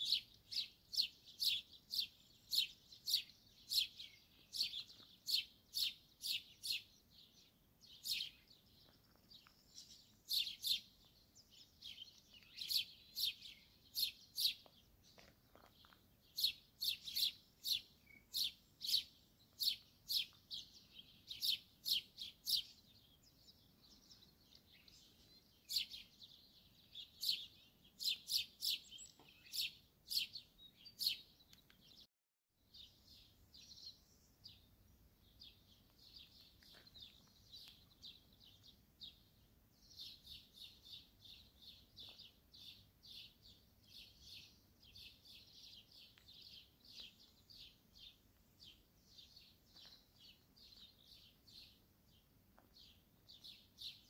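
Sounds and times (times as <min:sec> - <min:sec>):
small songbirds chirping: 0:00.0 - 0:54.0.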